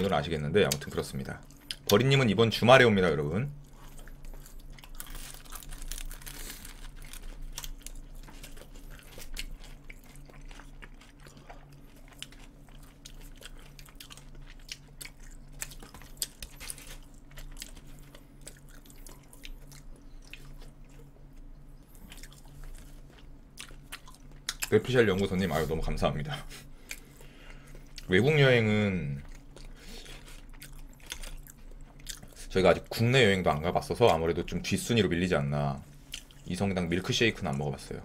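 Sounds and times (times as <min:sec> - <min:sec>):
chewing and crunching food: 0:00.0 - 0:38.0
low steady hum: 0:00.0 - 0:38.0.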